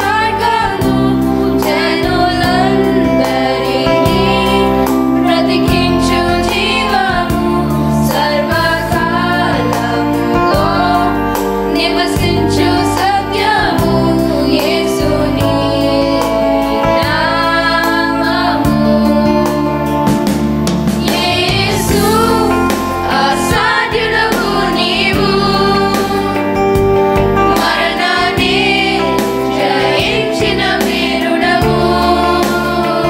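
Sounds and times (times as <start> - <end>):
children singing together: 0.0 - 19.9, 21.0 - 26.6, 27.4 - 33.0
instrumental accompaniment: 0.0 - 33.0.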